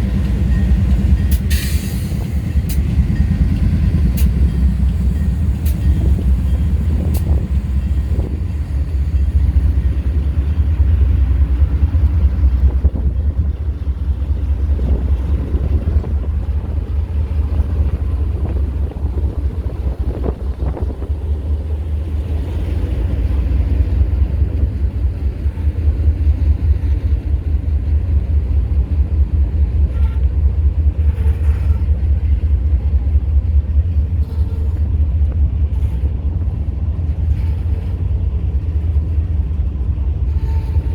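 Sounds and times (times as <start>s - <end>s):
diesel locomotive engine rumbling: 0.0s - 40.9s.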